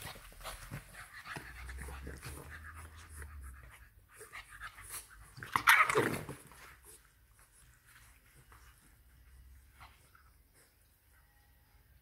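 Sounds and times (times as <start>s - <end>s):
puppies panting and snuffling: 0.0s - 11.1s.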